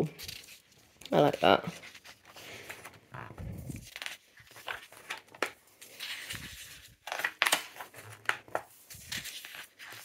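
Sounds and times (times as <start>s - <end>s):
magazine pages turning: 0.2s - 10.0s.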